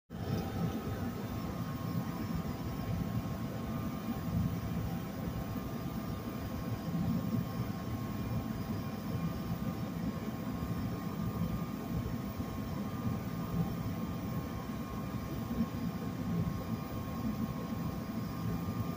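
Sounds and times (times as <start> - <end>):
steady electric whine: 0.1 - 18.9.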